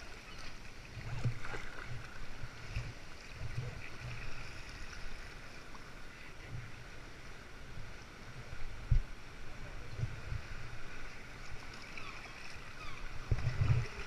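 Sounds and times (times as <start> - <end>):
water sloshing around kayak: 0.0 - 7.1, 9.7 - 14.0.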